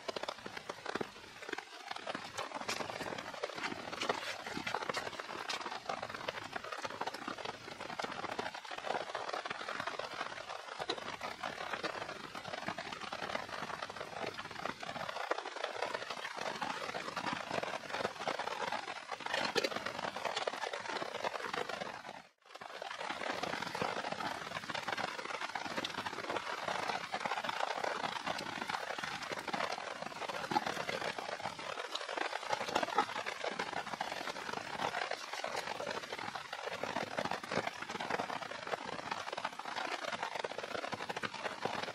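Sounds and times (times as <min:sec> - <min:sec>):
campfire crackling: 0:00.0 - 0:41.9
steady rain in forest: 0:00.0 - 0:41.9.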